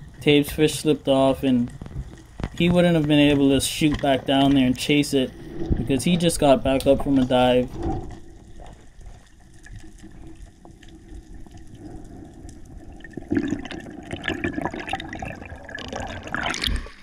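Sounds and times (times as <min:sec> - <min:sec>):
bubbling water: 0:00.0 - 0:17.0
muffled underwater water wash: 0:00.0 - 0:17.0.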